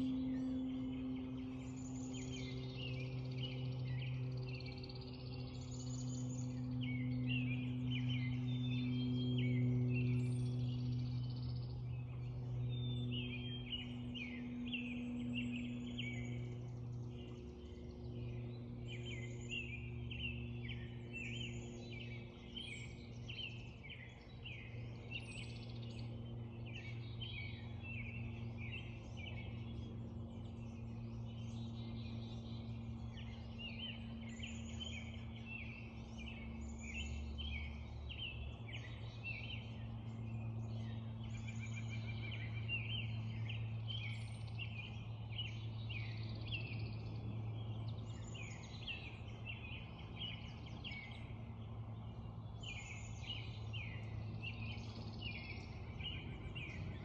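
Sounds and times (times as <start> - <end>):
birds chirping and calling: 0.0 - 57.0
steady low hum: 0.0 - 57.0.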